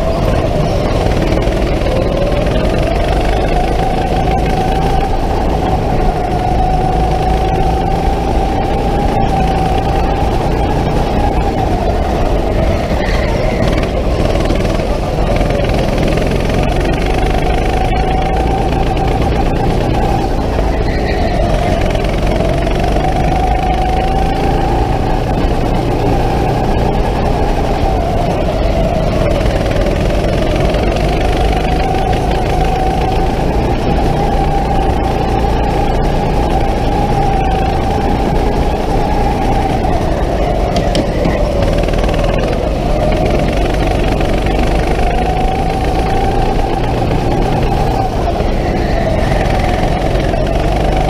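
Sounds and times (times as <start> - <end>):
go-kart motor whine: 0.0 - 51.0
rumble and vibration: 0.0 - 51.0.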